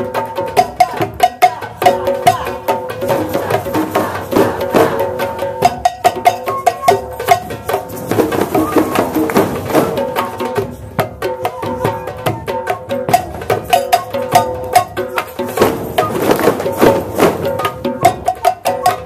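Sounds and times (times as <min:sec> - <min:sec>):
hand drums playing rhythm: 0:00.0 - 0:19.0.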